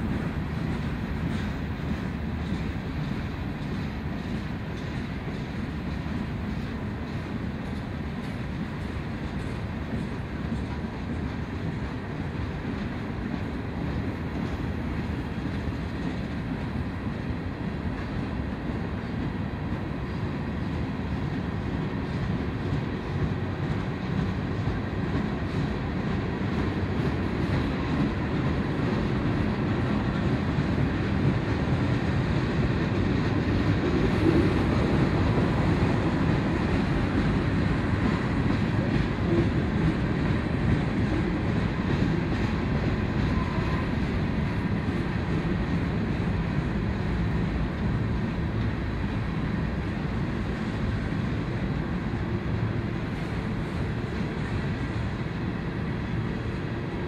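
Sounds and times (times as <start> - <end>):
freight train rumbling on rails: 0.0 - 57.0.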